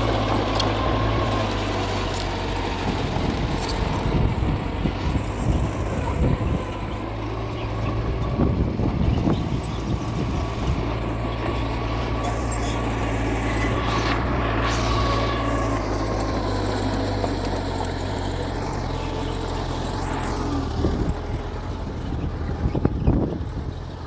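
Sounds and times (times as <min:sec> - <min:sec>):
high squeals: 0:00.0 - 0:20.7
diesel engine running: 0:00.0 - 0:24.0.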